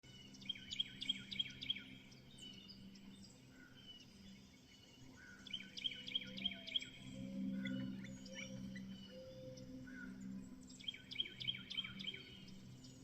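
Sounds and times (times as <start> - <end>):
bird chirping: 0.1 - 13.0.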